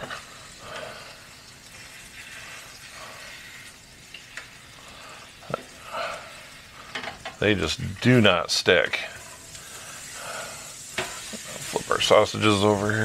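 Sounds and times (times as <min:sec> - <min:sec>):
eggs and sausages sizzling: 0:00.0 - 0:13.0.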